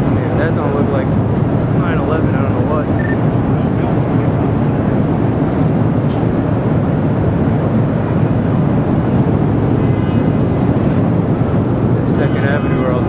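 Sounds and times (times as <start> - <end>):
steam venting with loud rumbling: 0.0 - 13.0.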